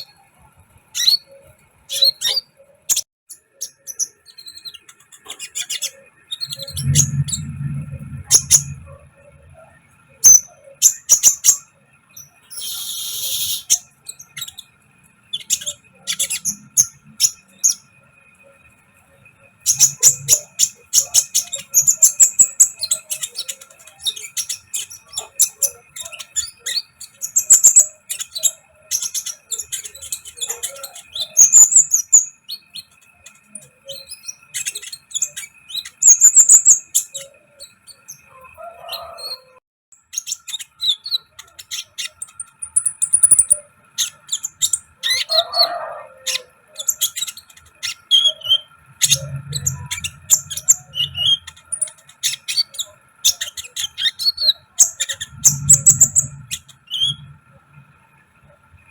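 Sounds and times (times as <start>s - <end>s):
sunbird chirping and twittering: 0.0s - 58.9s.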